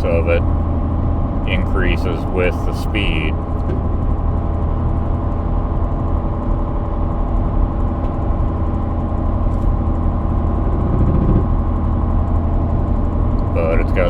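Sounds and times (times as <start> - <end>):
engine and road drone: 0.0 - 14.0.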